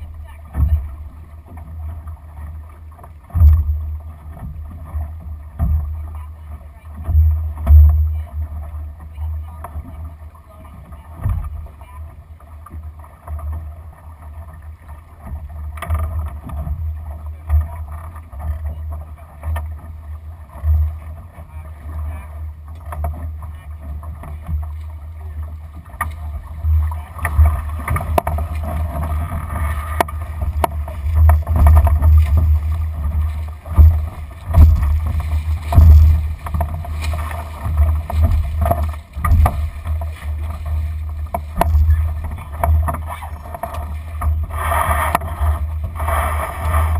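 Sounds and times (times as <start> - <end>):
water rushing along hull: 0.0 - 46.9.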